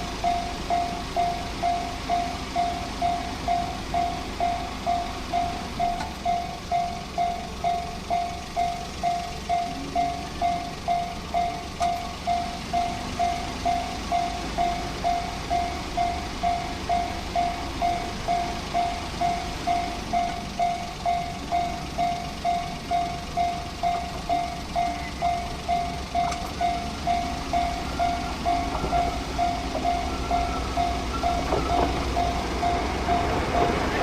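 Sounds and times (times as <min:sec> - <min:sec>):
level crossing warning bell: 0:00.0 - 0:34.0
train rumble: 0:00.0 - 0:34.0.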